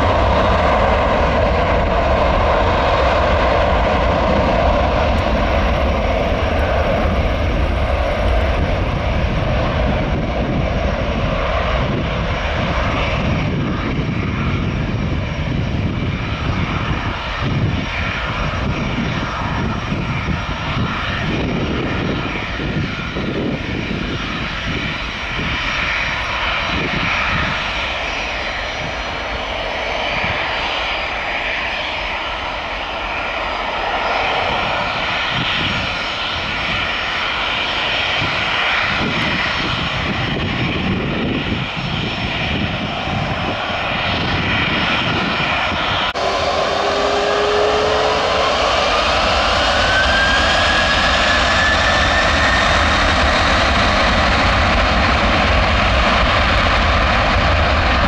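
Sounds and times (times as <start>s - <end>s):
faint steady engine whine: 0.0s - 58.0s
jet engines roaring at takeoff: 0.0s - 58.0s.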